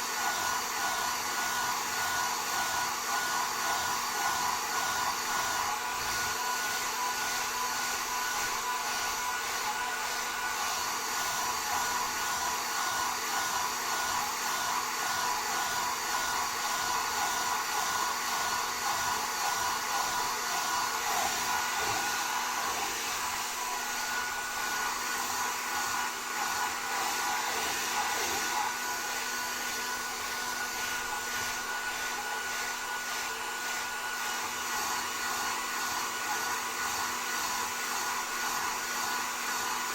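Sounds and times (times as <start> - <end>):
hair dryers blowing: 0.0 - 39.9.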